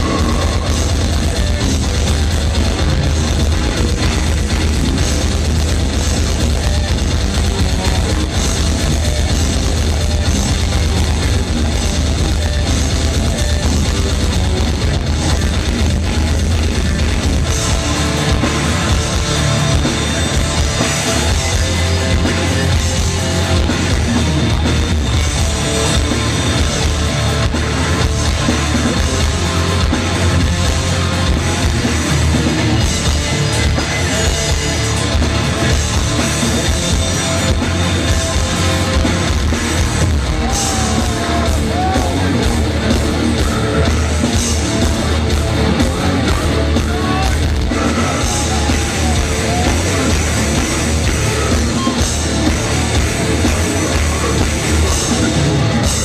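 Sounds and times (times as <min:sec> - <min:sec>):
distorted electric guitars: 0:00.0 - 0:56.0
drum kit: 0:00.0 - 0:56.0.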